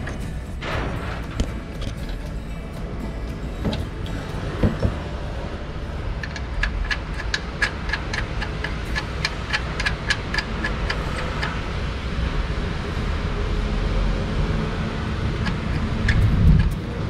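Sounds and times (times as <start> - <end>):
sharp evenly spaced ticks: 0.0 - 12.0, 15.0 - 17.0
steady low hum: 0.0 - 17.0.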